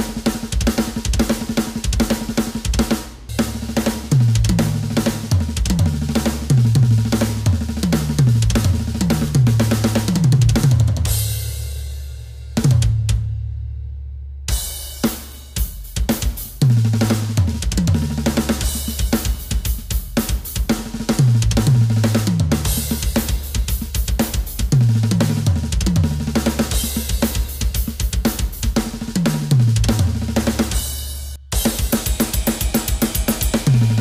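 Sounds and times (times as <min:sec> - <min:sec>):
electronic drum kit fill: 0:00.0 - 0:13.5, 0:14.5 - 0:34.0.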